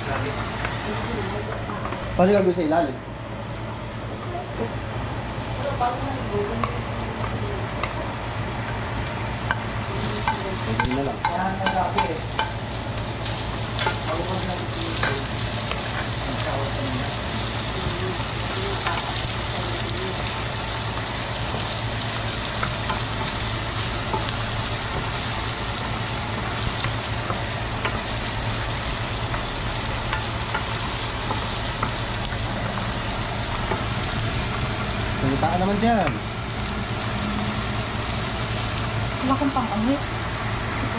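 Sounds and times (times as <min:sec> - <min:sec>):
onions sizzling in a frying pan: 0:00.0 - 0:40.9.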